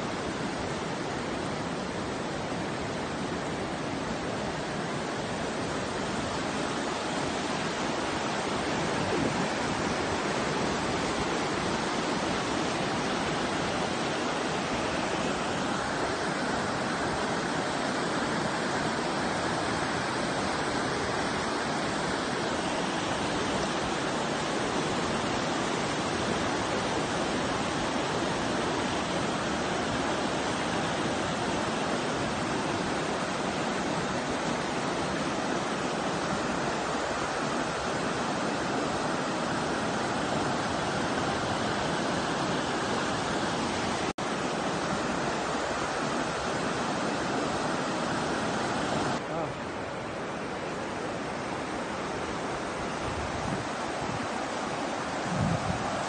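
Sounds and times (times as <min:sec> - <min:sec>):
river rapids rushing over rocks: 0:00.0 - 0:56.0.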